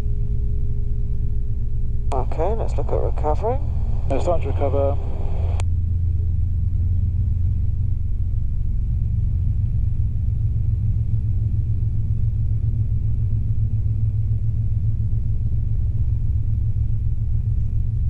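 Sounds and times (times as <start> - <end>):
helicopter engine and rotors: 0.0 - 18.0.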